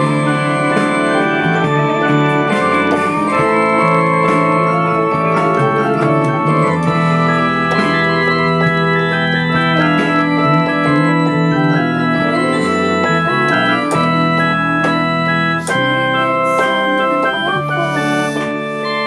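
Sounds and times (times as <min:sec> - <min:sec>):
keyboard playing organ-like chords: 0:00.0 - 0:19.0
recorded pop song: 0:00.0 - 0:19.0
wavering sung melody: 0:00.0 - 0:19.0.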